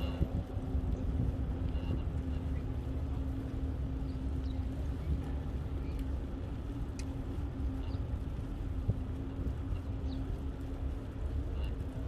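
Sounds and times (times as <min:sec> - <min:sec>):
bicycle wind and tyre noise: 0:00.0 - 0:12.0
low hum: 0:00.0 - 0:12.0.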